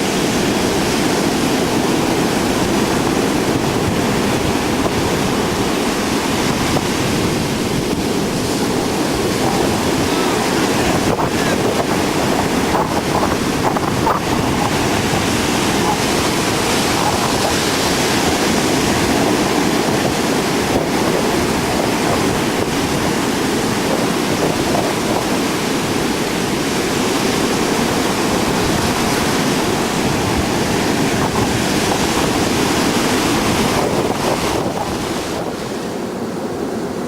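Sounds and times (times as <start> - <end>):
storm surf breaking: 0.0 - 37.0
wind buffeting microphone: 0.0 - 37.0.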